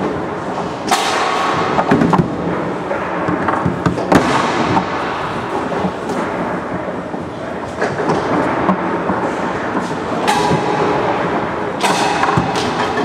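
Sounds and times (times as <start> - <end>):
hall noise hum: 0.0 - 13.0.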